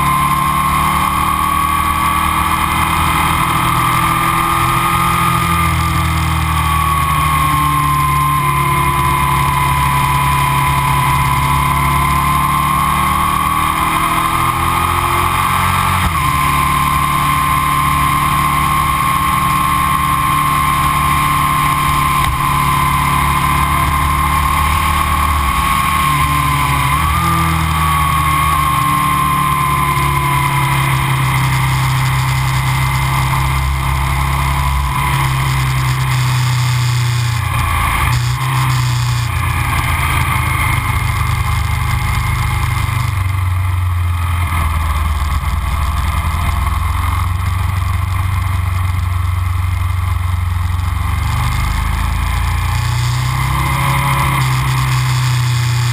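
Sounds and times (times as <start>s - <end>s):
motorcycle engine riding: 0.0s - 55.9s.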